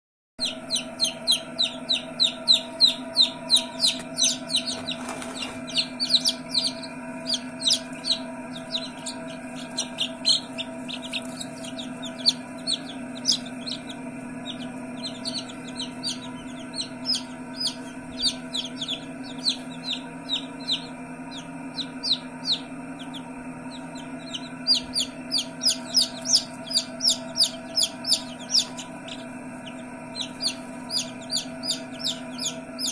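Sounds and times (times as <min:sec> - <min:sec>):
chicks peeping: 0:00.4 - 0:32.9
low hum: 0:00.4 - 0:32.9.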